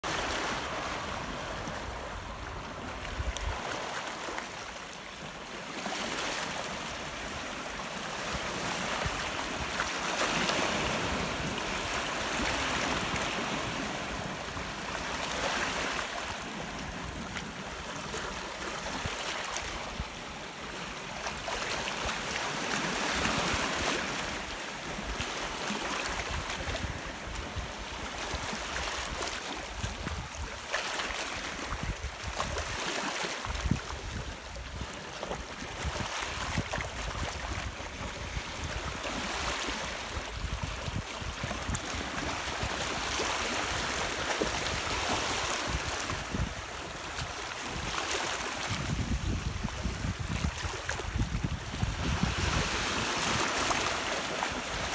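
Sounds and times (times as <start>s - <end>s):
sea waves splashing over rocks: 0.0s - 54.9s.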